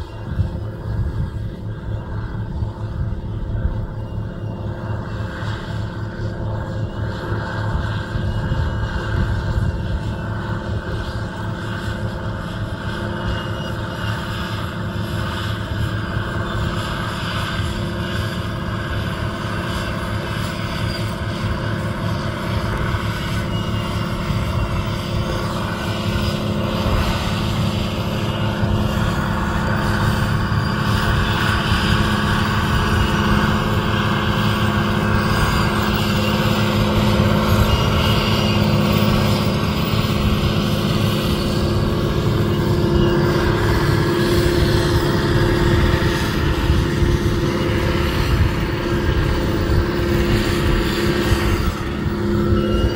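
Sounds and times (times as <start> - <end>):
tractor diesel engine under load: 0.0 - 52.9.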